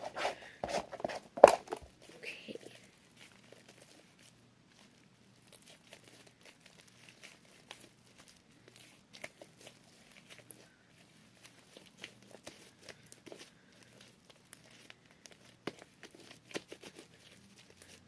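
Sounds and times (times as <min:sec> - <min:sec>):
slime kneaded by hand: 0:00.0 - 0:18.0.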